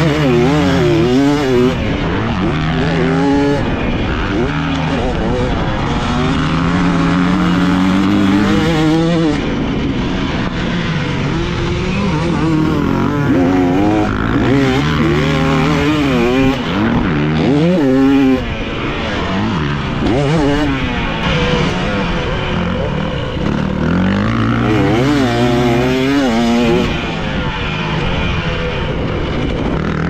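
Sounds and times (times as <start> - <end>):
dirt bike engine revving: 0.0 - 30.0
wind rush: 0.1 - 30.0.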